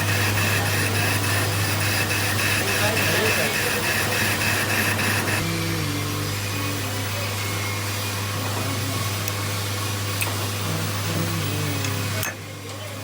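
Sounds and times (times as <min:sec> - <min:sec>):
machine hum with low drone: 0:00.0 - 0:13.0.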